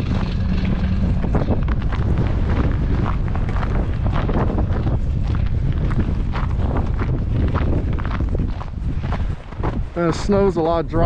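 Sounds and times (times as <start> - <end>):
blizzard wind buffeting microphone: 0.0 - 11.0.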